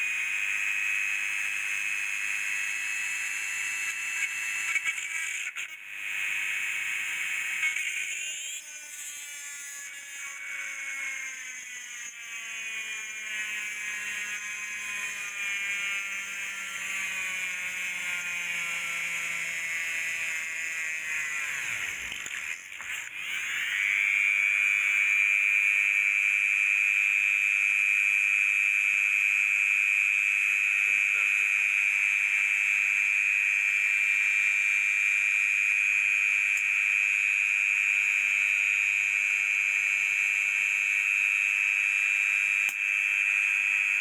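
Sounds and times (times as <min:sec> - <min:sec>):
electric motor whining: 0:00.0 - 0:28.2, 0:30.4 - 0:44.0.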